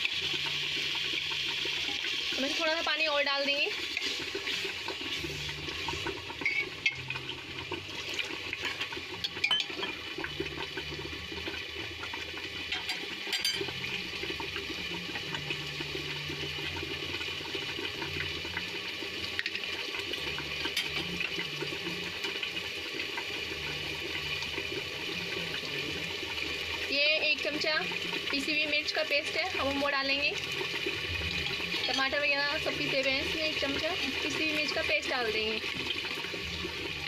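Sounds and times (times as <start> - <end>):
gravy simmering and bubbling: 0.0 - 37.0.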